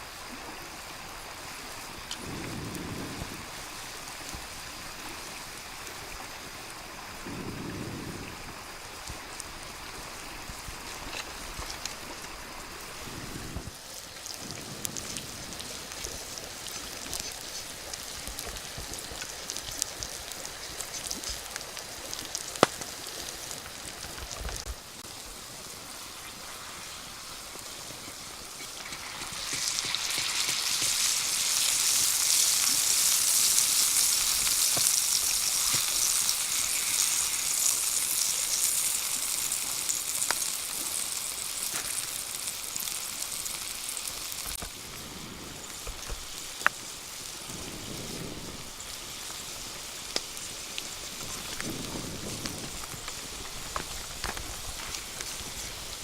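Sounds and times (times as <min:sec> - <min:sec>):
fish sizzling on hot stone: 0:00.0 - 0:56.0.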